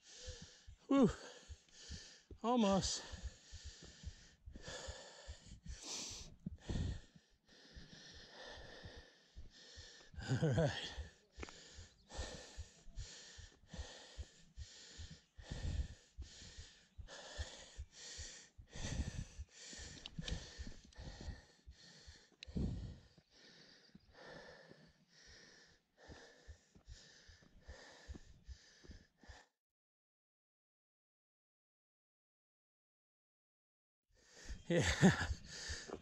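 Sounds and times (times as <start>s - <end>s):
person panting: 0.0s - 29.5s, 34.2s - 36.0s.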